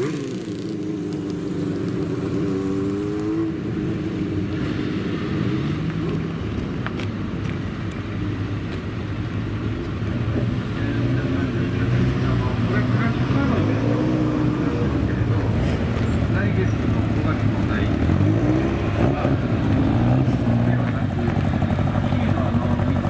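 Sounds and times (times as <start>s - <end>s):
sports car engines running: 0.0s - 23.0s.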